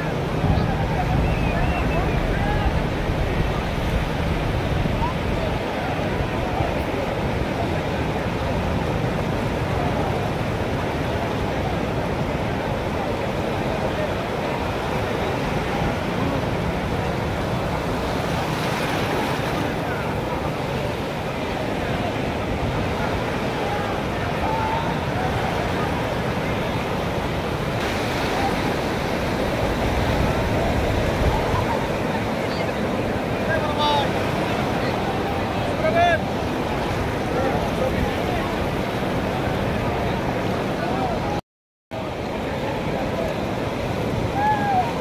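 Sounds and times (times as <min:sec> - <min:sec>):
waves breaking on beach: 0:00.0 - 0:41.4, 0:42.0 - 0:45.0
wind rumbling on microphone: 0:00.0 - 0:41.4.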